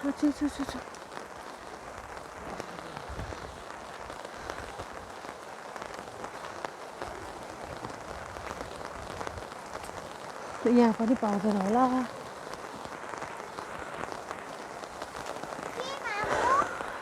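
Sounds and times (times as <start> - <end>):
heavy rain falling: 0.0 - 17.0
raindrops ticking close by: 0.0 - 17.0.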